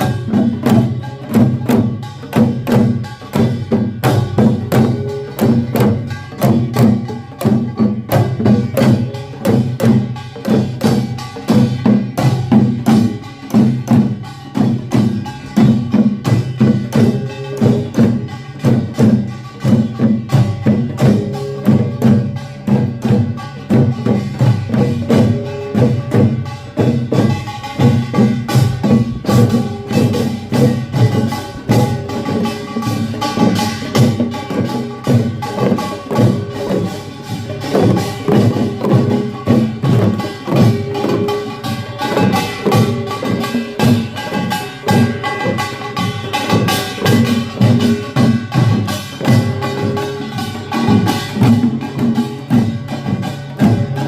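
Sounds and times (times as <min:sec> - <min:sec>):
percussion band playing: 0:00.0 - 0:54.0.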